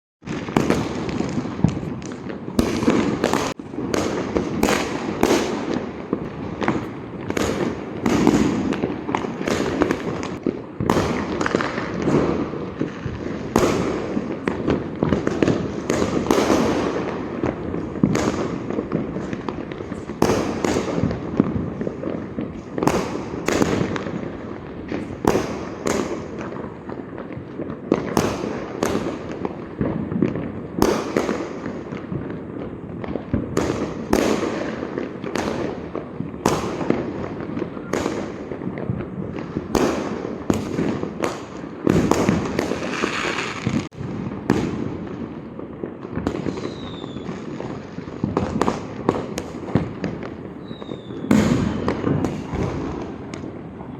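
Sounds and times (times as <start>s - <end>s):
firecrackers banging and popping: 0.2s - 53.9s.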